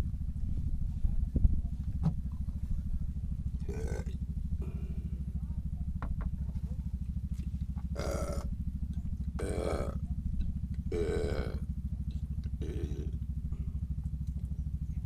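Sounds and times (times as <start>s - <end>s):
small engine running: 1.7s - 15.0s.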